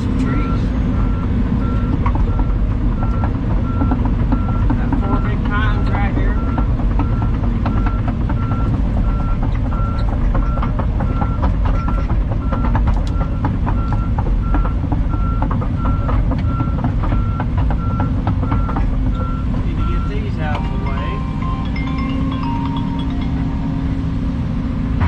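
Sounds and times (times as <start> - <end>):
diesel machine rumbling: 0.0 - 25.0
back-up alarm beeping: 0.3 - 24.4.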